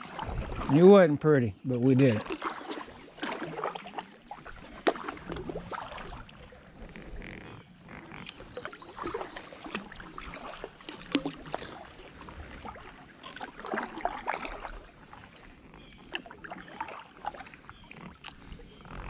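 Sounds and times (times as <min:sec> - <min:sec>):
paddle splashing in water: 0:00.0 - 0:01.1, 0:01.7 - 0:19.0.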